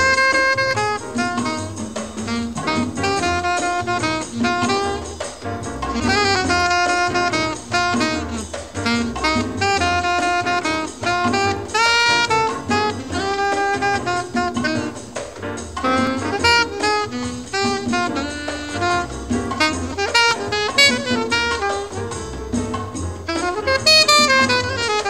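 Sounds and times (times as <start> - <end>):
jazz music with saxophone: 0.0 - 25.0.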